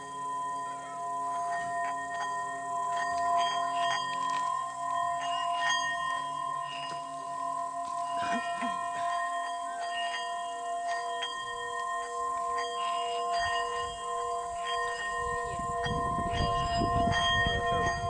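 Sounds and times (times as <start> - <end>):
singing bowls ringing: 0.0 - 18.0.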